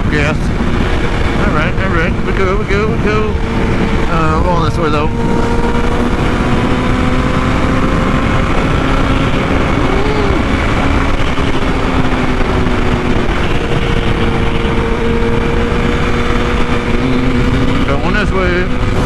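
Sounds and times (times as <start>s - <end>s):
motorcycle engine cruising: 0.0s - 19.0s
wind rushing over microphone: 0.0s - 19.0s.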